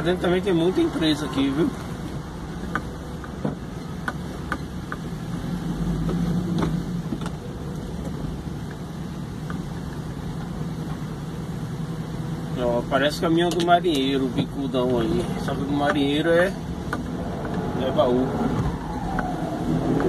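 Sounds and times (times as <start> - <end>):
tyres on wet asphalt: 0.0 - 20.0.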